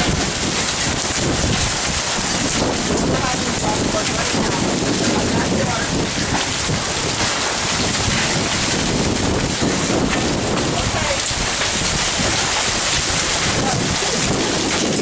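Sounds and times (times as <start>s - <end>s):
heavy rain falling: 0.0s - 15.0s
low rumbling: 0.0s - 15.0s.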